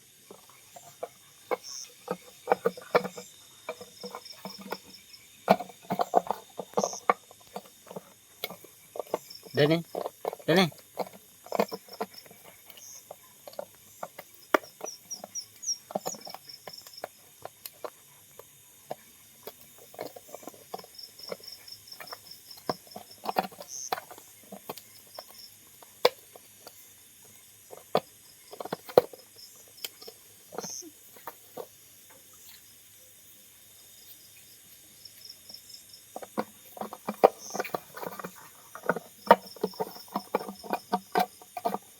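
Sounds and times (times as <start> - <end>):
insect chirping in high trills: 0.0 - 41.9.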